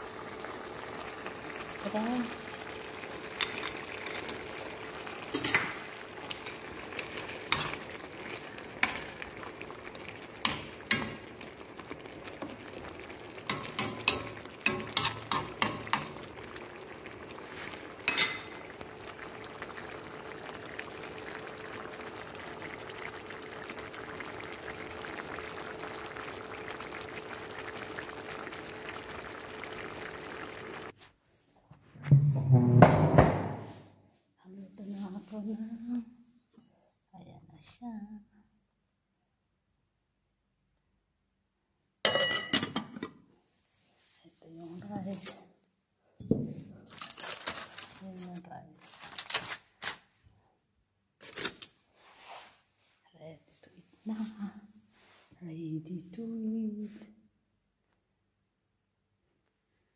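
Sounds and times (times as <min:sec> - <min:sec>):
stew simmering and bubbling: 0:00.0 - 0:33.9, 0:40.4 - 0:56.8.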